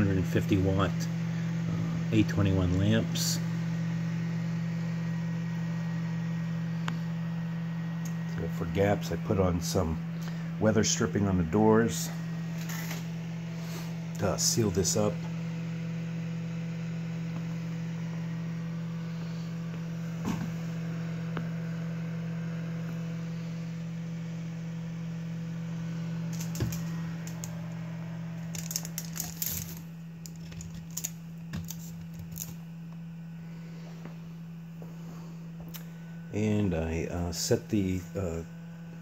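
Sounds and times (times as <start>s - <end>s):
incubator electrical hum: 0.0s - 39.0s.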